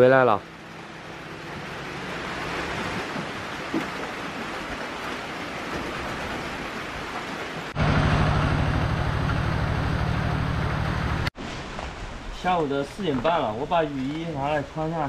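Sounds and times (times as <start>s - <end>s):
rain falling: 0.4s - 15.0s.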